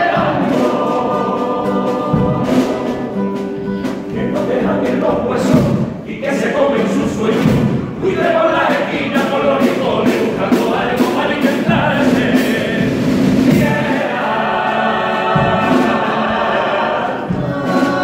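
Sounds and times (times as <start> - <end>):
men singing in harmony: 0.0 - 18.0
snare drum keeping time: 0.0 - 18.0.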